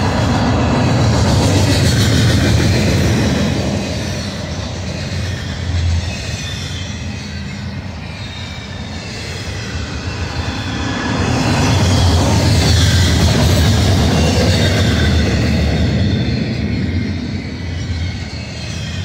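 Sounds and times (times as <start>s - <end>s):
high-pitched wheel squeal: 0.0s - 19.0s
train wheels rumbling on rail: 0.0s - 19.0s.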